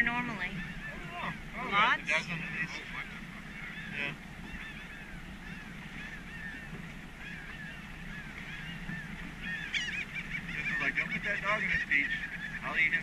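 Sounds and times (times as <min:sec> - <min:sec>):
flock of birds chirping: 0:00.0 - 0:13.0
low steady hum: 0:00.0 - 0:13.0.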